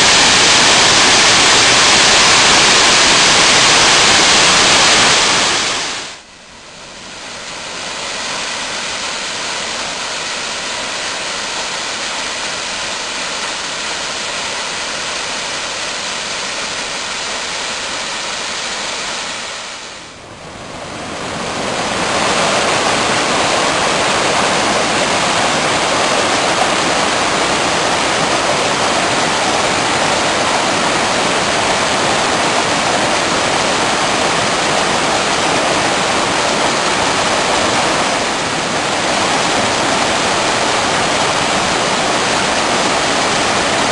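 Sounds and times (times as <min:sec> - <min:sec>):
waterfall rushing: 0:00.0 - 0:06.2, 0:07.0 - 0:43.9.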